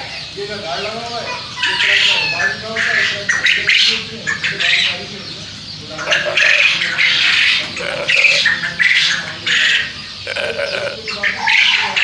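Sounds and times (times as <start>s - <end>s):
quail squawking calls: 0.8s - 5.1s, 5.8s - 12.0s.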